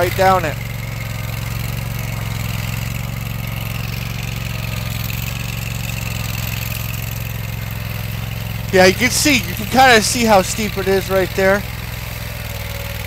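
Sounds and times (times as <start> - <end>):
vibratory plow engine running: 0.0 - 13.0.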